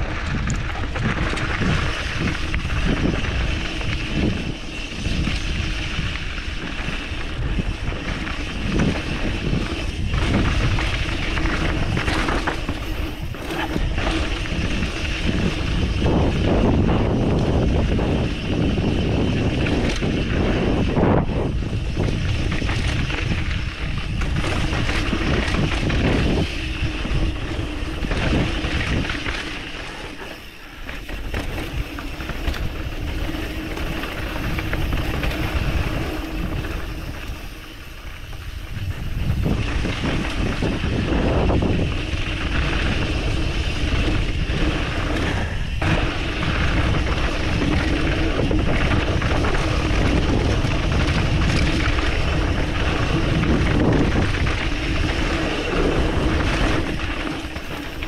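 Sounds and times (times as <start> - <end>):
mountain bike rattling on dirt trail: 0.0 - 58.0
wind buffeting microphone: 0.0 - 58.0.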